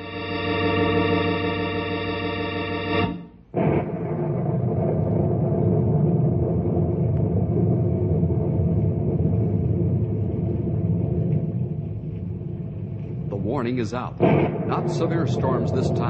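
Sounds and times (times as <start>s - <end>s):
loud steady low rumble: 0.0s - 16.0s.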